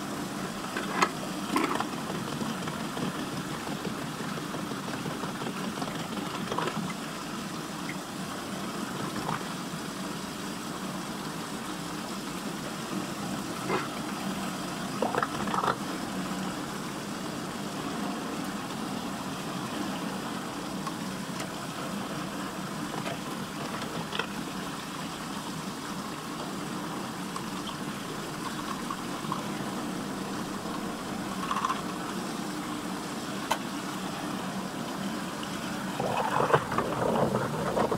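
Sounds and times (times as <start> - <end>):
water swirling down a drain: 0.0 - 37.9.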